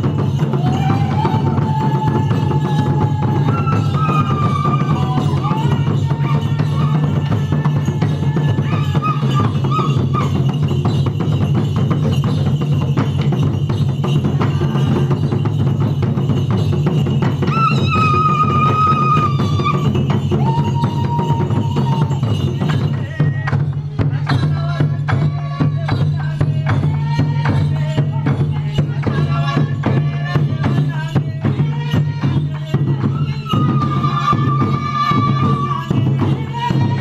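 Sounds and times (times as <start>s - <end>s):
fast drumming: 0.0s - 37.0s.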